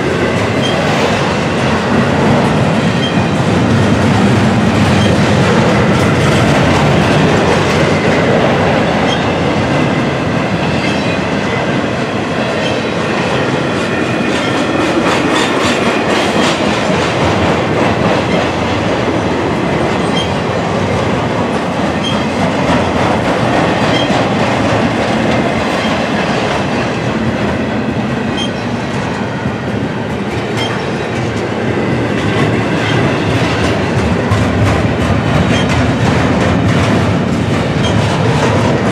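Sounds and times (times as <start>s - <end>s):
wheels clickety-clack: 0.0s - 29.2s, 30.1s - 38.9s
freight train wheels rumbling on rail: 0.0s - 38.9s.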